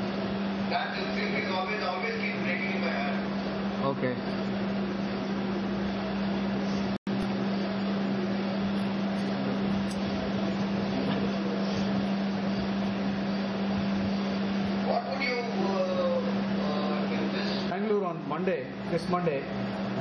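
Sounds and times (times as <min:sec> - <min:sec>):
low mechanical hum with hiss: 0:00.0 - 0:20.0.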